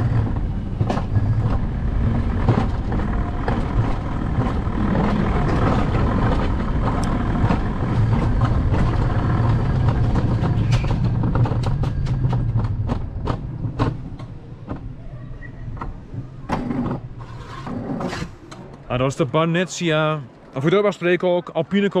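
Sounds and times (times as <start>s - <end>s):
sharp clacks of rails: 0.0s - 18.8s
sled wheels rumbling on rails: 0.0s - 19.4s.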